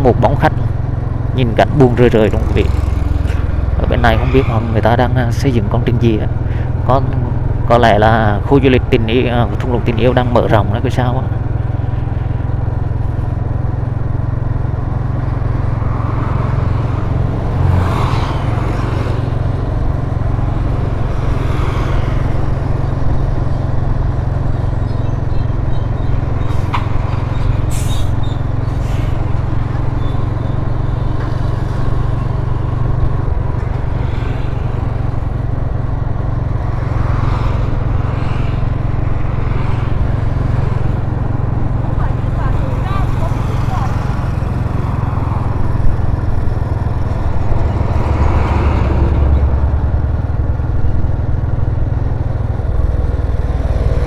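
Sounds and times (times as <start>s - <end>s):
engine and wind rumble: 0.0s - 54.0s
vehicles passing: 0.0s - 54.0s.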